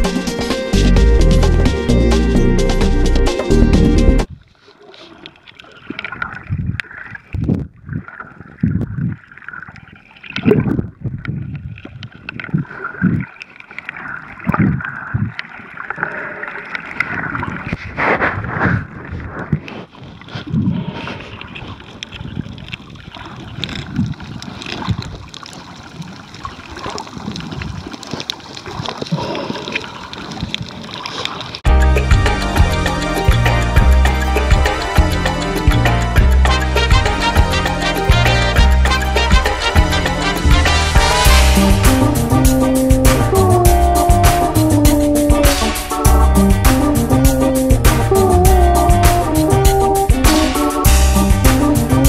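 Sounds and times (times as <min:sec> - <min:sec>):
muffled water sloshing underwater: 0:00.0 - 0:52.0.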